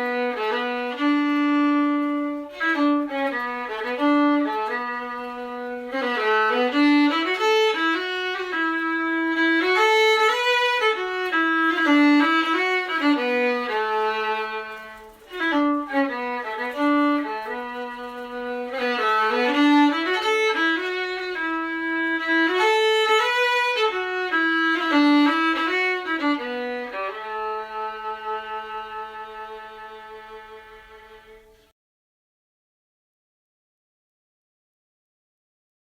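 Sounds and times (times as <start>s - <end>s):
solo fiddle slow melody: 0.0s - 31.7s.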